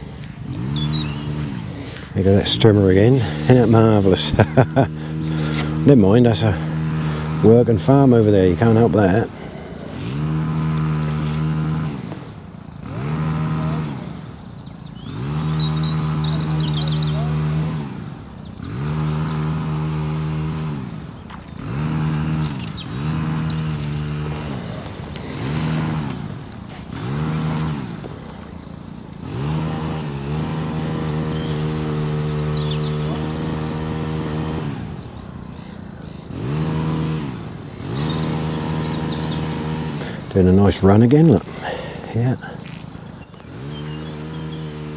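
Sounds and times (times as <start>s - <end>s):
petrol strimmer revving: 0.0s - 44.9s.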